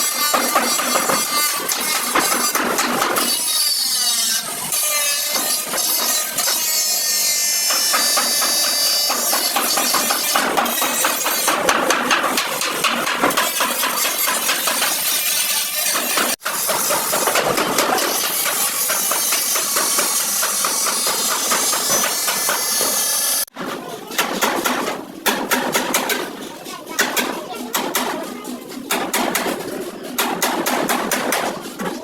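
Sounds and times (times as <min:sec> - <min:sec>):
hammer striking sheet metal: 0:00.0 - 0:03.4, 0:04.7 - 0:06.9, 0:07.5 - 0:32.0.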